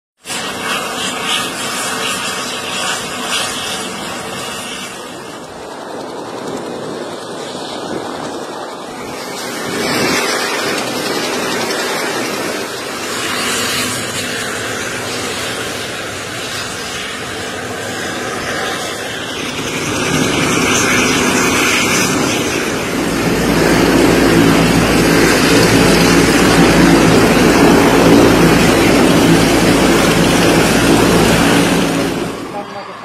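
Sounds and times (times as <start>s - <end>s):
helicopter engine and rotor: 0.2s - 33.0s.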